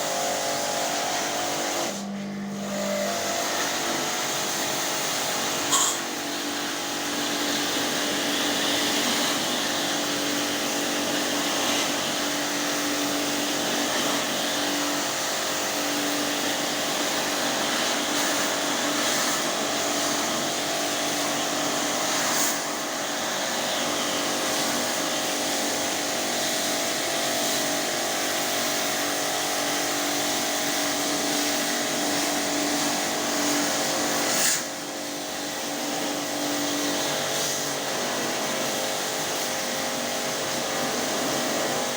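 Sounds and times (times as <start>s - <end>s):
pressure washer pump humming: 0.0s - 41.9s.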